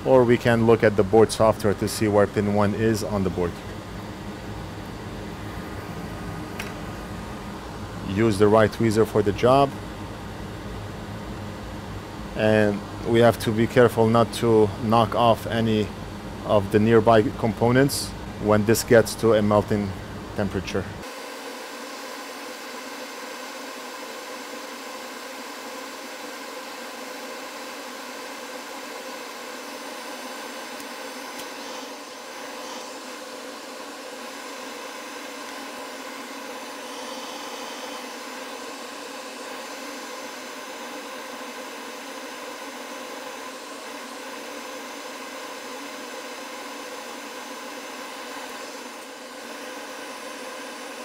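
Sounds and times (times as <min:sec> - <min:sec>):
blower rushing air: 0:00.0 - 0:51.0.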